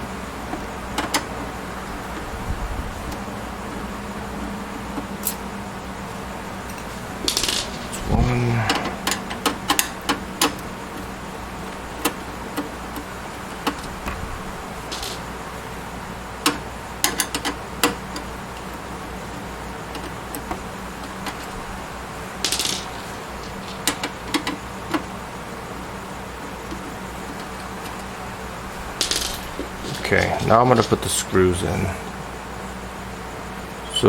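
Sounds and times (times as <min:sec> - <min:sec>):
steady low hum: 0:00.0 - 0:17.0, 0:17.6 - 0:34.0.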